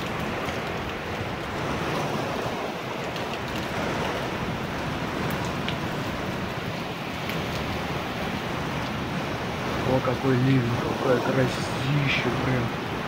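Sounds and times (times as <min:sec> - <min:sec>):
heavy rain pouring: 0:00.0 - 0:13.0
rushing wind: 0:00.0 - 0:13.0.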